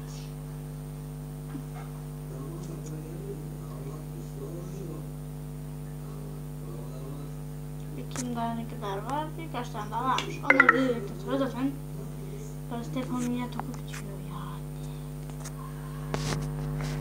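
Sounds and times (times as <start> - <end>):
mains hum: 0.0 - 17.0.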